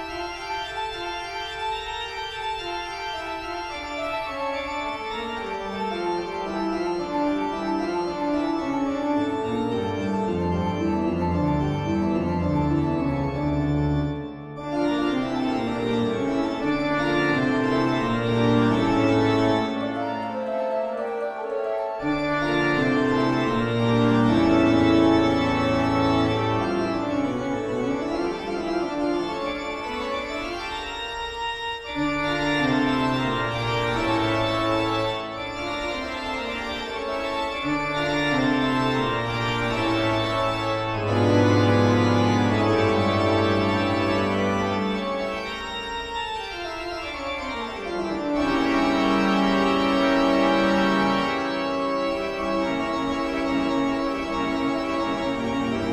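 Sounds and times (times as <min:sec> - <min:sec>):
organ music with pitch glides: 0:00.0 - 0:55.9.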